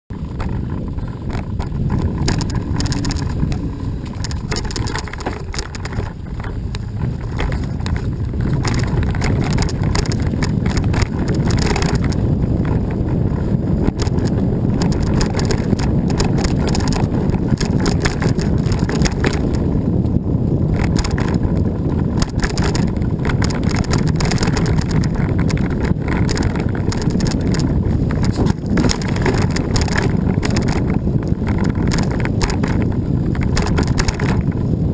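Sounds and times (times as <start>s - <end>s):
wind and tyre rumble: 0.0s - 34.9s
bike knocks and rattles: 0.1s - 34.9s.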